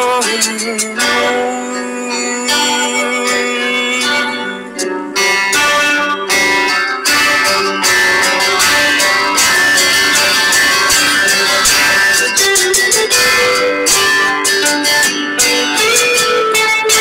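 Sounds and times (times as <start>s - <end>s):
acoustic guitars playing slow ballad: 0.0s - 17.0s.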